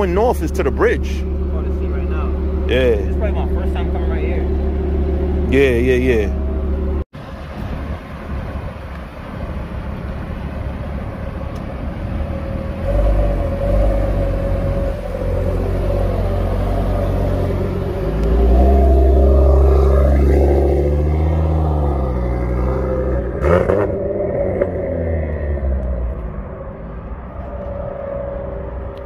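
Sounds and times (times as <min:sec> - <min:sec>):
car engine idling and driving off: 0:00.0 - 0:29.0.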